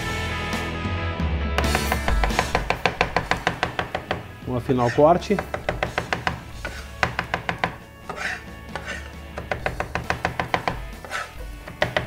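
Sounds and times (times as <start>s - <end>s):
knife chopping on wooden board: 1.6s - 12.0s.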